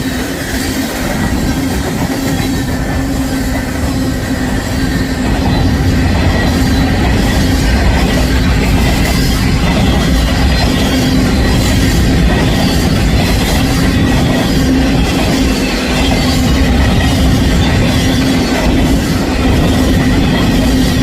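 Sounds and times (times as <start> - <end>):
train wheels rumbling on rail: 0.0 - 21.0
wheels clacking: 0.0 - 21.0.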